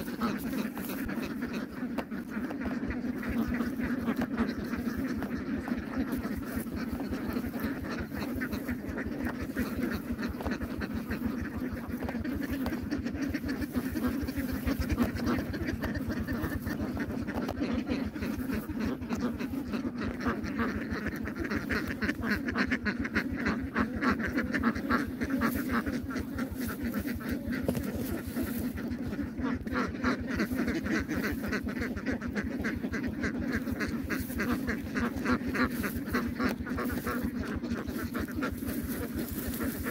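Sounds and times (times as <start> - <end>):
ducks quacking: 0.0 - 39.9.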